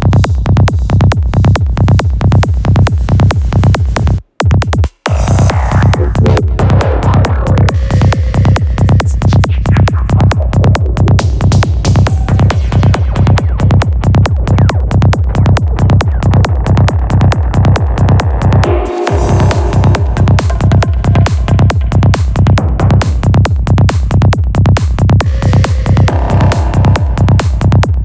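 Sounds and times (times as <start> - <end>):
trance music with pulsing bass: 0.0 - 28.0.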